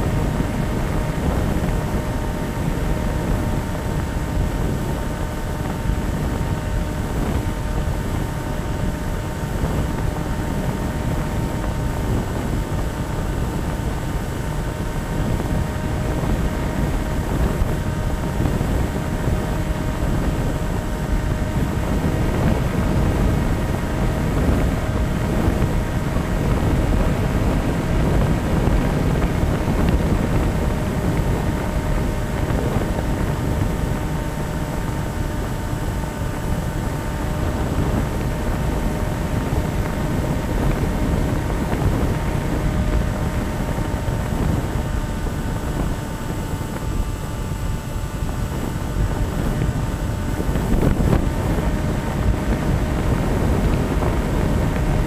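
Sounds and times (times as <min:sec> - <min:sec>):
model airplane motor whine: 0:00.0 - 0:55.0
wind buffeting microphone: 0:00.0 - 0:55.0.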